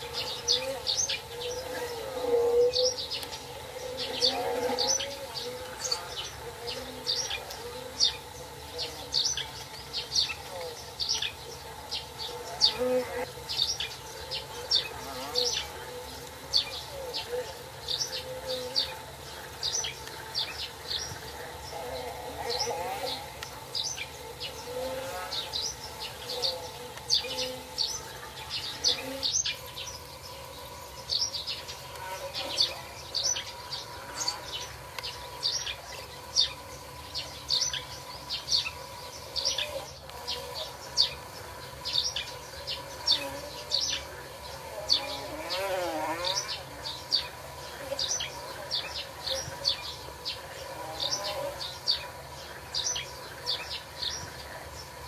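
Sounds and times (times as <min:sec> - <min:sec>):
faint steady hum: 0:00.0 - 0:55.0
small birds chirping: 0:00.0 - 0:55.0.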